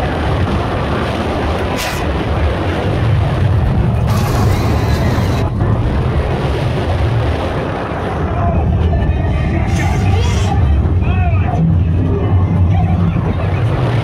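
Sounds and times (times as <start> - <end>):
roller coaster rumbling on track: 0.0 - 14.0
wind rushing over microphone: 0.0 - 14.0.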